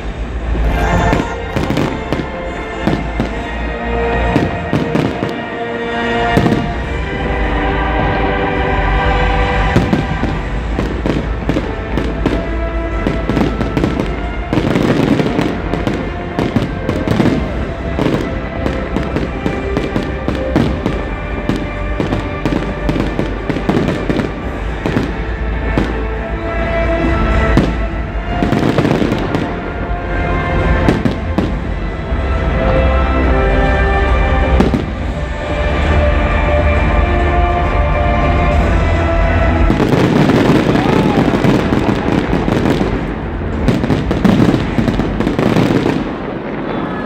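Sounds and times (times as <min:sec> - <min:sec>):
fireworks bangs and crackling: 0:00.0 - 0:05.7, 0:06.3 - 0:32.9, 0:33.6 - 0:47.0
music playing: 0:00.0 - 0:47.0.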